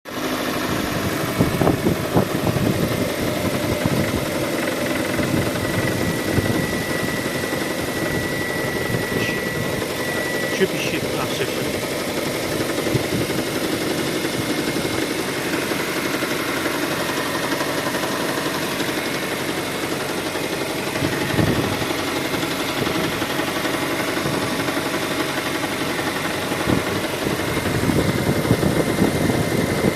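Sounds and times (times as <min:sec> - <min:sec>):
car engine idling with knock: 0:00.2 - 0:29.9.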